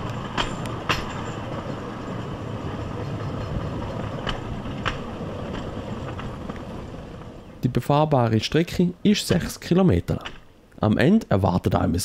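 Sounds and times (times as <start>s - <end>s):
wheels clacking on rail joint: 0.0s - 10.8s
small train rumbling on rails: 0.0s - 12.0s.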